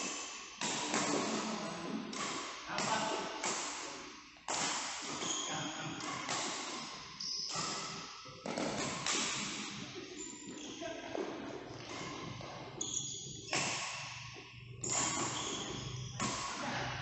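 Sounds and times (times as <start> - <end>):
rackets hitting shuttlecock: 0.0 - 17.0
shoes squeaking on court floor: 0.6 - 16.8.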